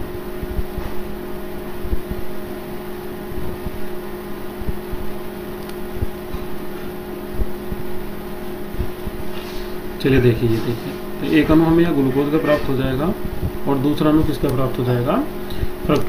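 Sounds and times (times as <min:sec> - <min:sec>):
soft low thumps: 0:00.0 - 0:02.6, 0:03.3 - 0:09.3, 0:09.9 - 0:14.4
steady background hum: 0:00.0 - 0:16.0.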